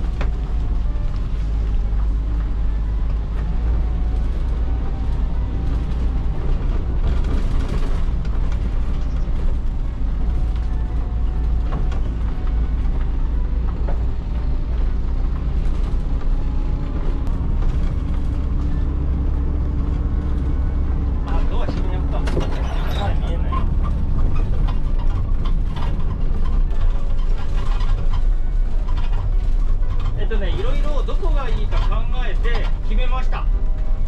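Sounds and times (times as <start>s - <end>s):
bus panels rattling and creaking: 0.0s - 34.0s
diesel engine drone: 0.0s - 34.0s.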